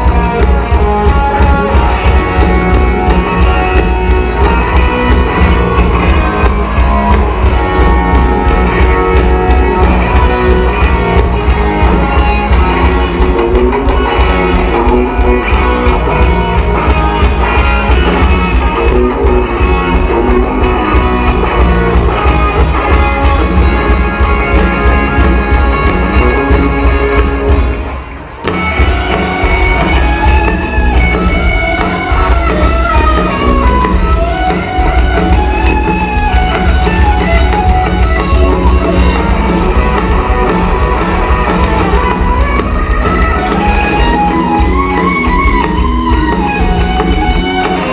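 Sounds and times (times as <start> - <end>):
bass guitar: 0.0 - 47.9
drum kit: 0.0 - 47.9
electric guitar: 0.0 - 47.9.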